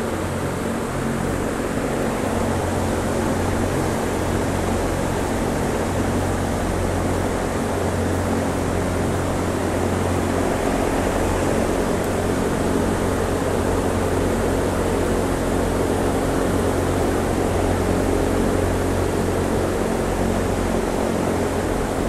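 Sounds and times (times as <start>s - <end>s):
ventilation fans humming: 0.0s - 22.0s.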